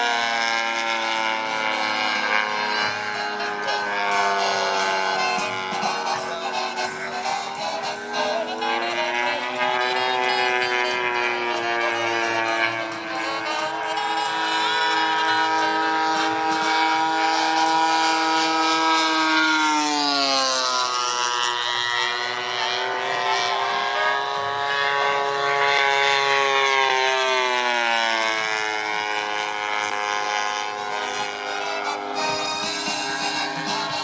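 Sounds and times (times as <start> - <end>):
model plane engine buzzing: 0.0 - 34.0.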